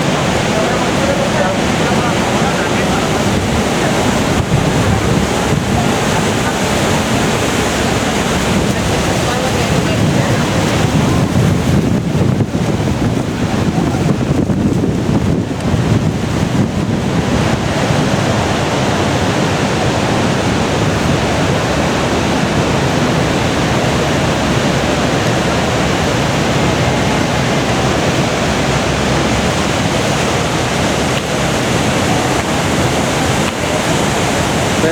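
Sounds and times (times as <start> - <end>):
churning water rushing: 0.0 - 34.9
wind buffeting microphone: 0.0 - 34.9.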